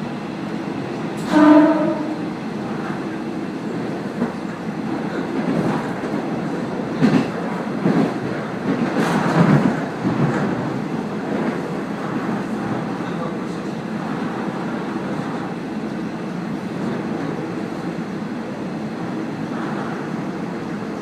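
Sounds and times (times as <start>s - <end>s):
railcar running rumble: 0.0s - 21.0s.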